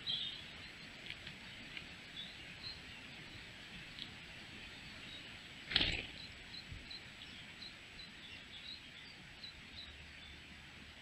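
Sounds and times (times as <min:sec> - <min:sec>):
small bird calling: 0:00.0 - 0:10.4.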